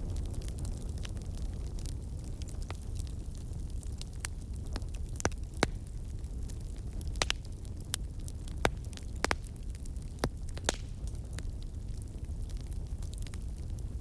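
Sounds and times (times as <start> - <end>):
fire crackling and popping: 0.0 - 14.0
low rumble of burning: 0.0 - 14.0.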